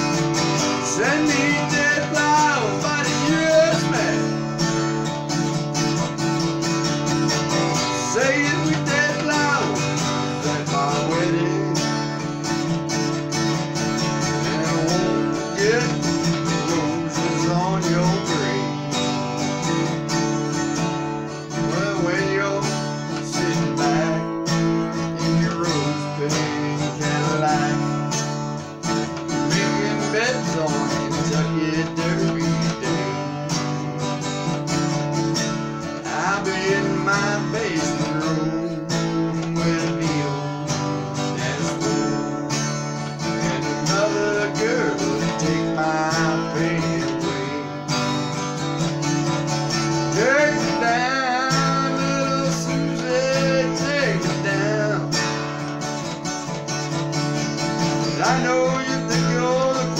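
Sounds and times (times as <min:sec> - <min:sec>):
acoustic guitar strumming chords: 0:00.0 - 0:59.9.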